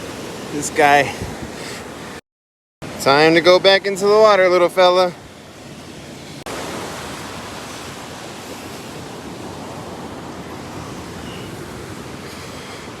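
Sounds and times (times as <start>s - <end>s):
ocean surf washing onto beach: 0.0s - 2.2s, 2.8s - 13.0s.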